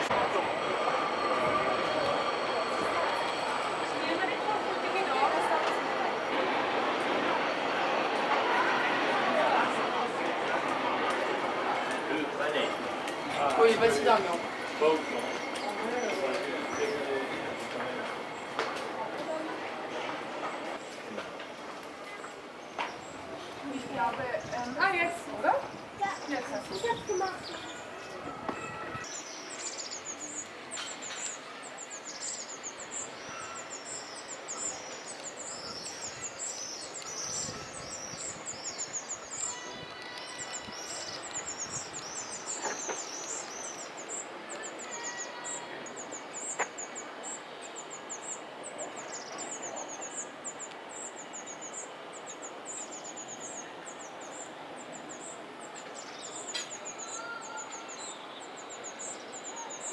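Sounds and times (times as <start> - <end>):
birds chirping: 0.0 - 21.4, 22.0 - 59.9
outdoor background noise: 0.0 - 59.9.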